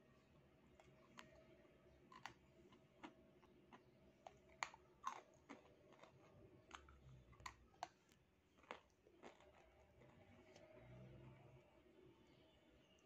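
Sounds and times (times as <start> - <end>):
clay being chewed crunching: 0.6 - 11.4.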